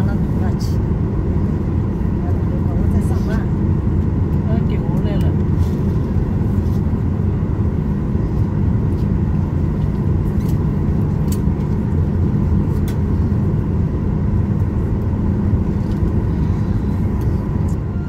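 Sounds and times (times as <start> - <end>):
aircraft cabin rumble: 0.0 - 18.0
faint whine: 0.0 - 18.0.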